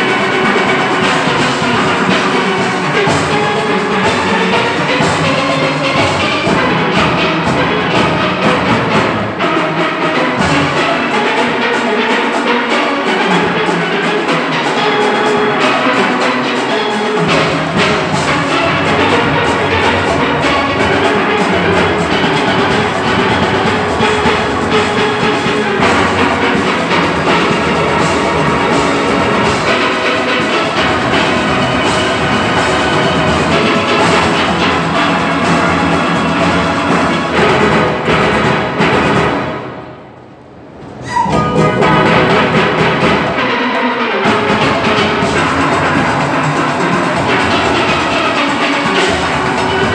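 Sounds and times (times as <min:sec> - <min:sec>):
percussion: 0:00.0 - 0:49.9
steel orchestra playing: 0:00.0 - 0:49.9.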